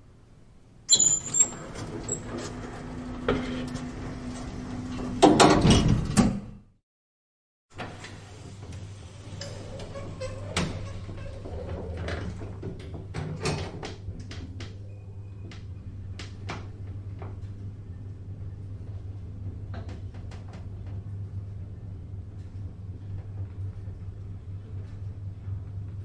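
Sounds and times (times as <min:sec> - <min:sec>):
elevator drive humming: 0:00.9 - 0:05.2, 0:08.3 - 0:26.0.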